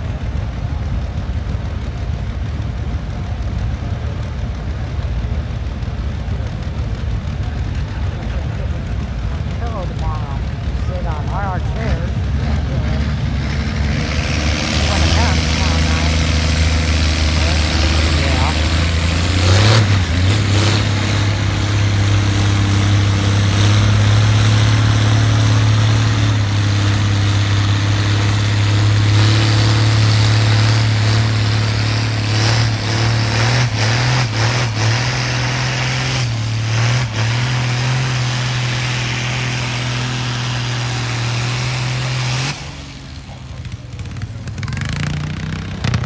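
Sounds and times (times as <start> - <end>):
tractor engine running under load: 0.0 - 46.0.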